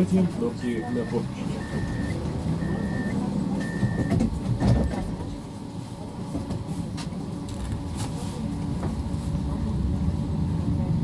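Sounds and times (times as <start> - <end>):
tram cabin rumble: 0.0 - 11.0.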